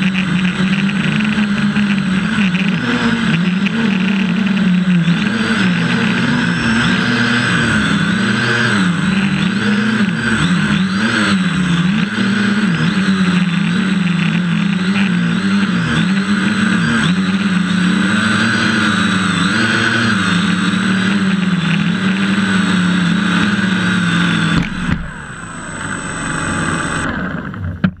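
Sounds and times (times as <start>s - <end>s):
drone motors buzzing whine: 0.0s - 28.0s.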